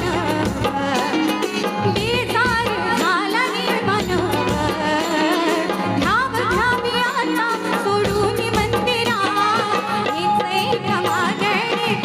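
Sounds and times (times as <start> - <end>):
percussion strikes: 0.0 - 12.0.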